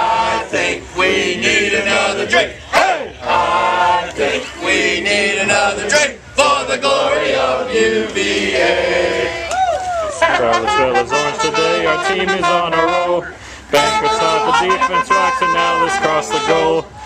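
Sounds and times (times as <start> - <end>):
crowd singing in unison: 0.0 - 9.5, 11.0 - 17.0.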